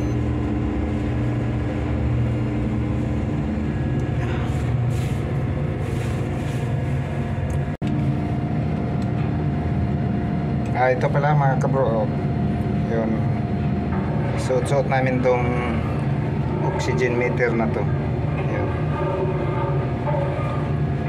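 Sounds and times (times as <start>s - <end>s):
ship machinery drone: 0.0s - 21.0s.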